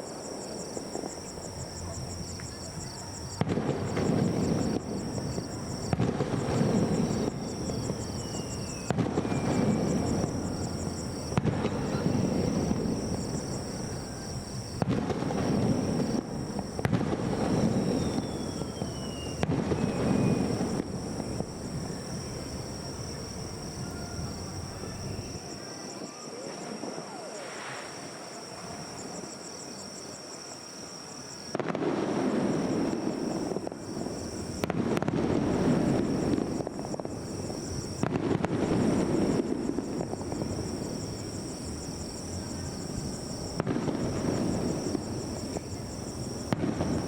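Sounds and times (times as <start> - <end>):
firework crackling: 0.0 - 25.6, 31.4 - 47.0
falling firework whistle: 0.0 - 30.1, 31.1 - 47.0.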